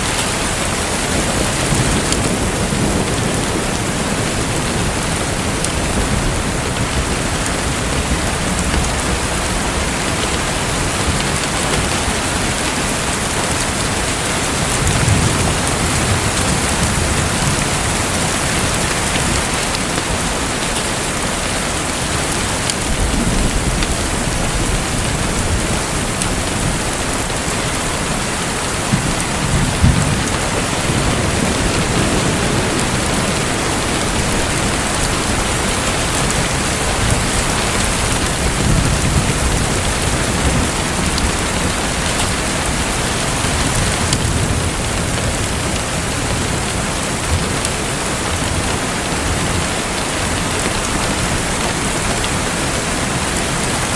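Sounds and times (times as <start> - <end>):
rushing pattering water: 0.0 - 53.9.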